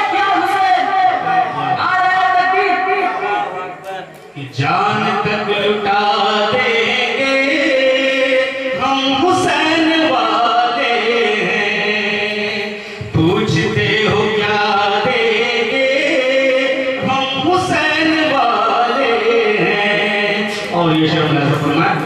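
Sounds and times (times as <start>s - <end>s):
man chanting into a microphone: 0.0s - 22.0s.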